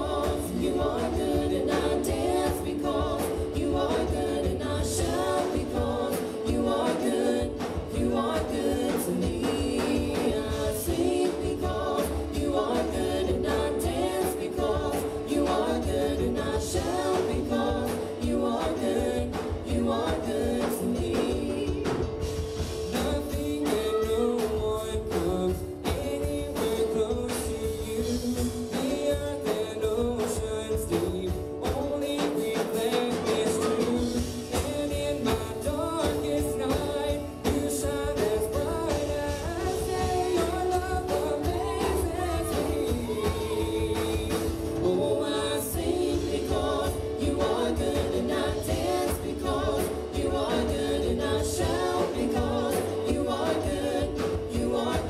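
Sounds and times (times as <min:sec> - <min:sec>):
electric bass: 0:00.0 - 0:29.3, 0:33.2 - 0:55.0
gospel band playing upbeat song: 0:00.0 - 0:55.0
keyboard: 0:00.0 - 0:55.0
people singing: 0:00.0 - 0:55.0
steady drumbeat: 0:00.0 - 0:55.0.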